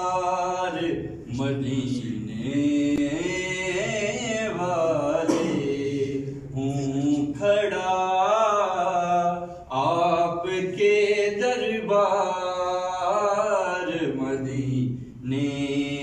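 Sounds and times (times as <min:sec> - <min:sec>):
man chanting prayer into microphone: 0:00.0 - 0:16.0.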